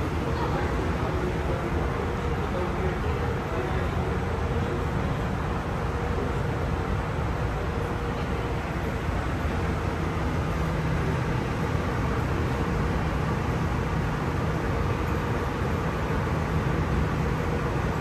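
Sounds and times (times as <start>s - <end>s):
train rumbling and rolling: 0.0s - 18.0s.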